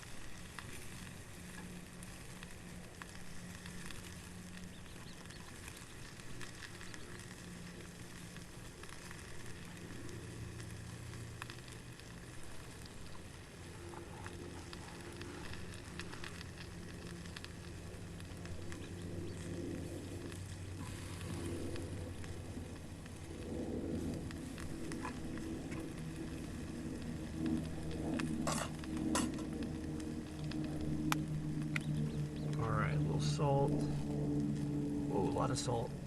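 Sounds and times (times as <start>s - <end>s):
food sizzling on a grill: 0.0s - 35.9s
campfire crackling and popping: 0.0s - 36.0s
steady low hum: 0.0s - 36.0s.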